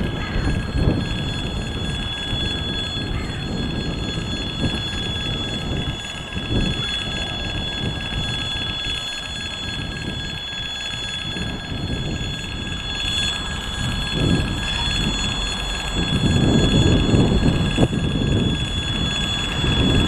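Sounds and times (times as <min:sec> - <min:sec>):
level crossing bell ringing: 0:00.0 - 0:20.0
low engine rumble: 0:00.0 - 0:20.0.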